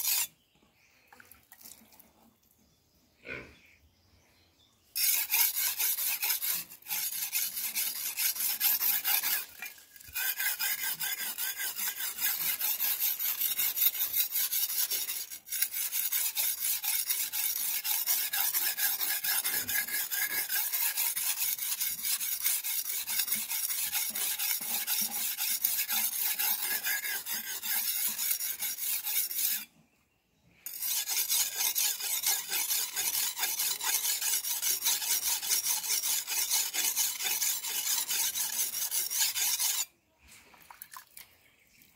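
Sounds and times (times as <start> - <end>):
blade scraping on whetstone: 0.0 - 0.3, 5.0 - 29.7, 30.6 - 39.9.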